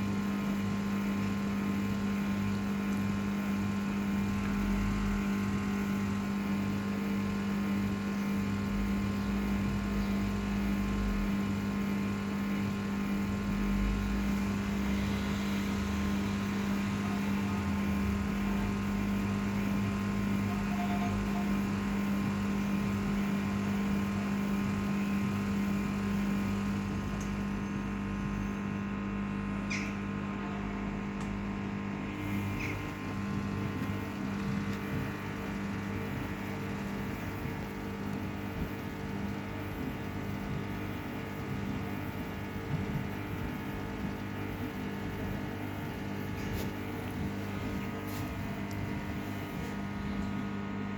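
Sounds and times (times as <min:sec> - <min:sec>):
washing machine spinning: 0:00.0 - 0:50.9.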